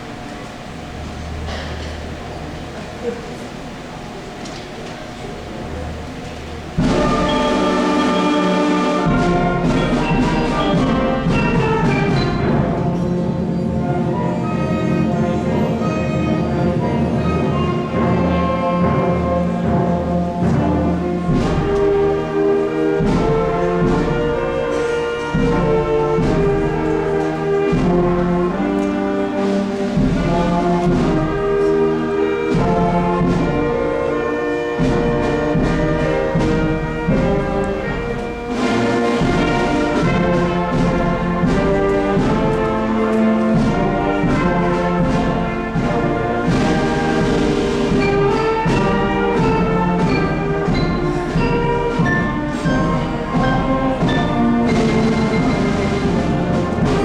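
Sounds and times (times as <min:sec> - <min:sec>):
orchestral brass music: 0:00.0 - 0:57.0.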